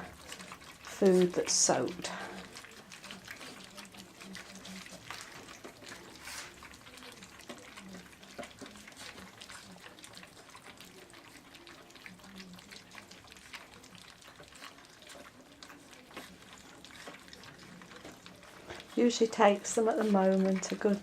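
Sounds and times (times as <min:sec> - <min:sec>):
puppies lapping food: 0:00.0 - 0:21.0.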